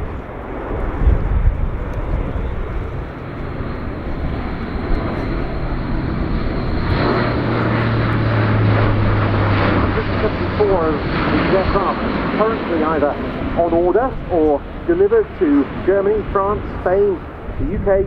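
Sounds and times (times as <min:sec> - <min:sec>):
turboprop plane passing overhead: 0:00.0 - 0:18.0.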